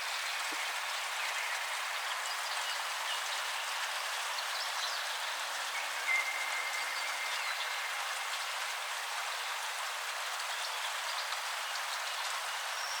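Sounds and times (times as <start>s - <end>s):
rain patter and hiss: 0.0s - 13.0s.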